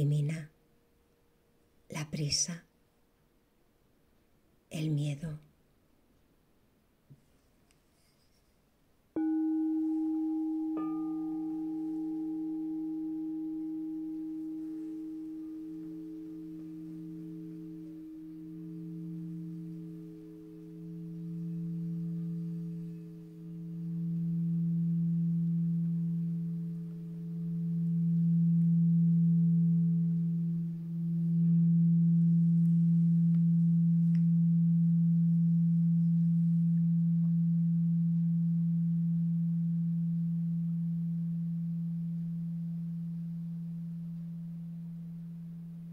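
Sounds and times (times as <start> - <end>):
singing bowls ringing: 9.2 - 45.9.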